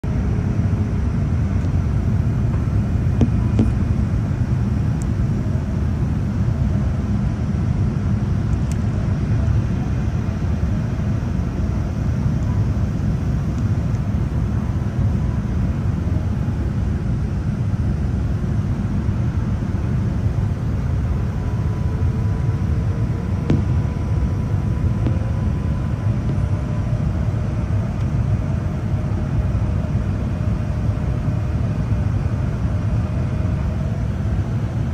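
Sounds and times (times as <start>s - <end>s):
airliner cabin rumble: 0.0s - 34.9s
faint engine tones: 0.0s - 34.9s.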